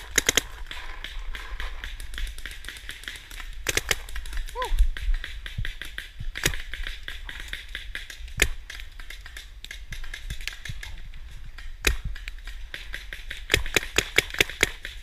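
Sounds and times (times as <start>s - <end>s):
paintball markers firing: 0.0s - 15.0s.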